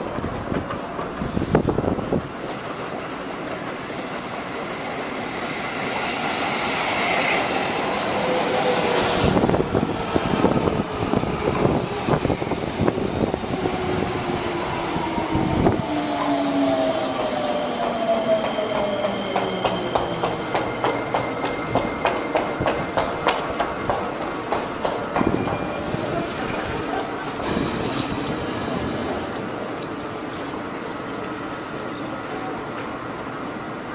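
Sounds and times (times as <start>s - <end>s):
train brake whine: 0.0s - 29.4s
train wheels clattering on rails: 0.0s - 33.1s.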